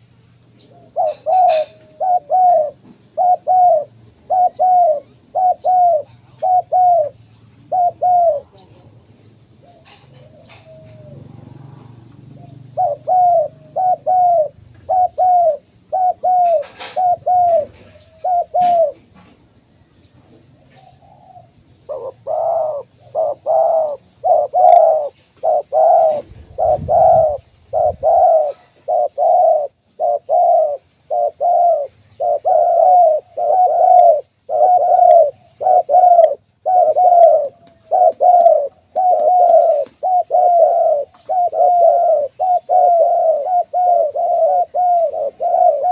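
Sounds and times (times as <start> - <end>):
dove cooing: 0.0 - 19.2, 20.2 - 45.9.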